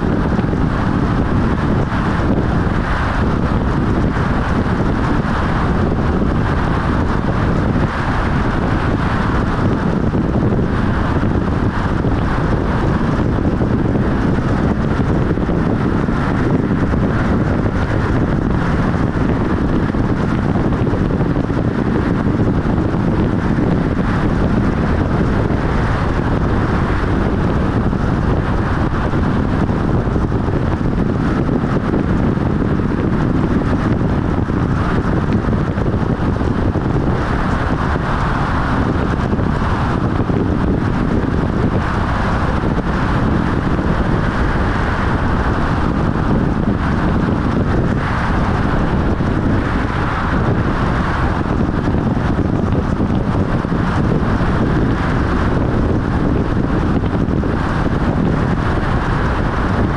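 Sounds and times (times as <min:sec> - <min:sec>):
tyre and wind noise: 0:00.0 - 0:59.9.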